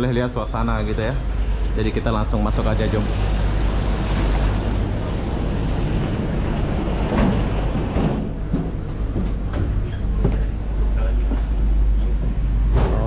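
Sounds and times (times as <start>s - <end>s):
ferry engines rumbling: 0.0s - 13.0s.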